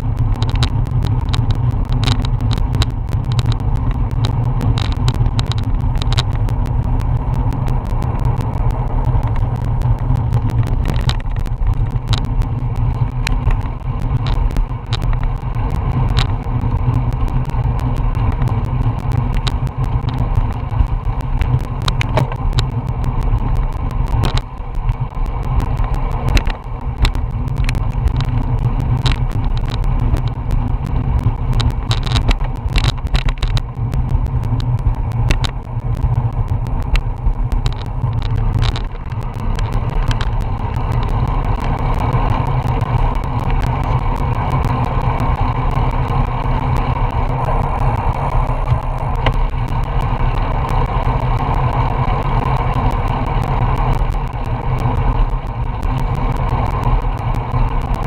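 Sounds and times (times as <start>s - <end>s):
bike clicking and rattling: 0.0s - 53.8s.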